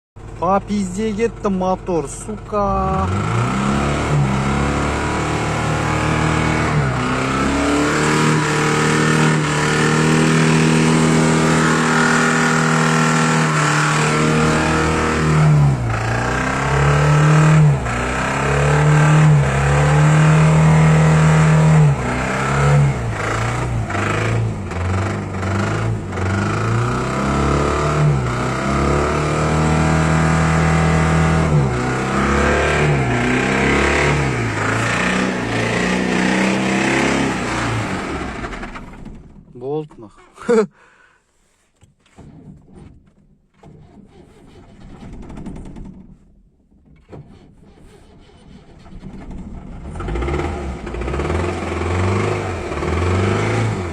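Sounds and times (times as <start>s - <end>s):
knocking car engine revving: 0.2s - 39.4s, 48.0s - 53.9s.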